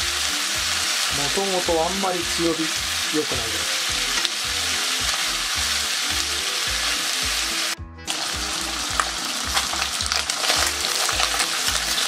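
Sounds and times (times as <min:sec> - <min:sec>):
chicken skin sizzling in a pan: 0:00.0 - 0:12.0.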